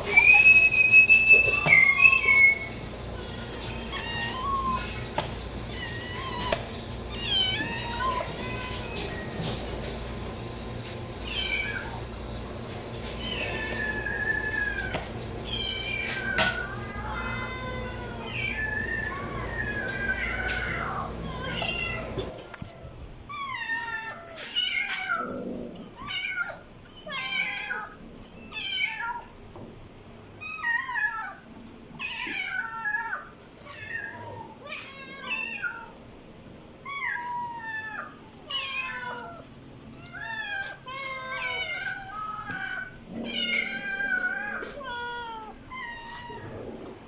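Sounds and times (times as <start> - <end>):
cats meowing: 0.0 - 10.0, 11.2 - 29.4, 30.4 - 47.0.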